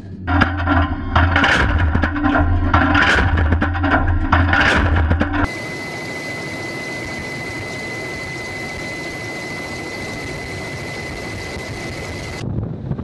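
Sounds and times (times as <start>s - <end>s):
aircraft engine whine: 0.0s - 13.0s.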